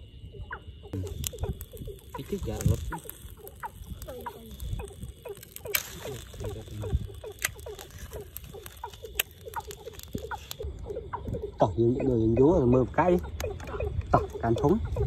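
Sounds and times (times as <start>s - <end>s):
frogs calling: 0.0s - 15.0s
dry grass crackling in fire: 0.9s - 11.5s, 12.9s - 15.0s.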